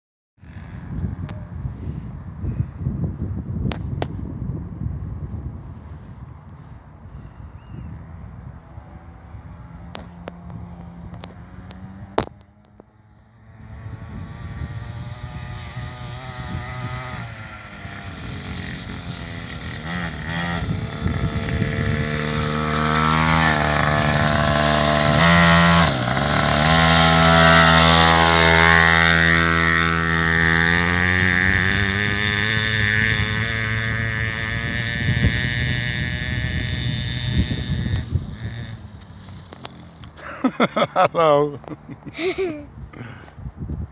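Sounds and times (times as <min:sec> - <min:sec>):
dirt bike engine revving: 0:08.0 - 0:43.2.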